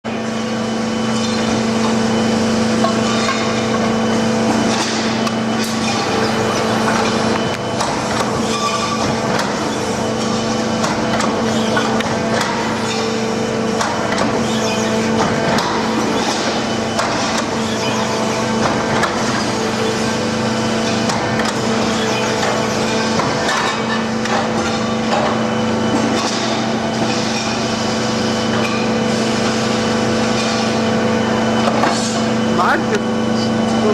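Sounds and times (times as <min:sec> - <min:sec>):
pipe bending machine hum: 0:00.0 - 0:33.9.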